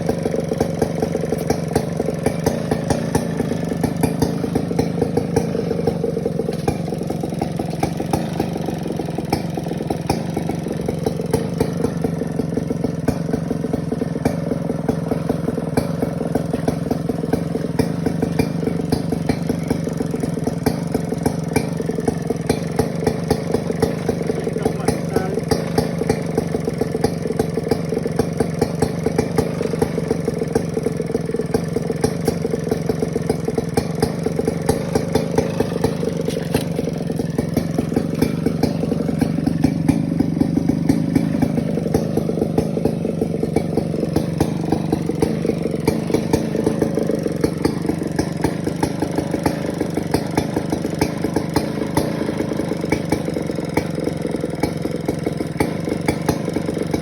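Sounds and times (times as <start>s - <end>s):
chainsaw cutting timber: 0.0s - 57.0s.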